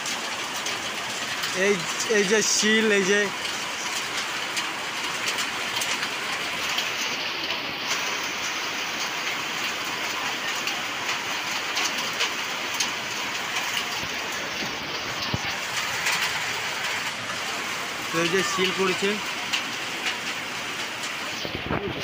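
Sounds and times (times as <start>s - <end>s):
hailstones ticking: 0.0s - 22.0s
heavy rain on a tin roof: 0.0s - 22.0s.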